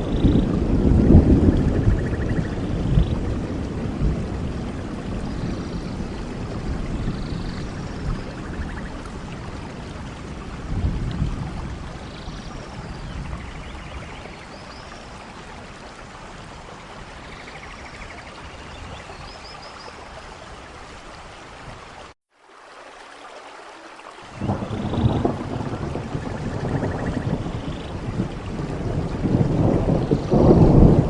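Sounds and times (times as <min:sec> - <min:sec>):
low rumble of thunder: 0:00.0 - 0:20.2, 0:24.3 - 0:31.0
steady rain: 0:00.0 - 0:31.0.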